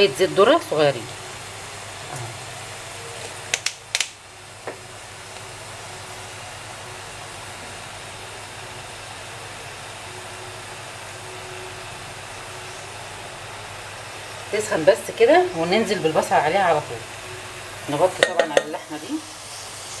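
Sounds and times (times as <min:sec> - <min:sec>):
gas stove hissing: 0:00.0 - 0:20.0.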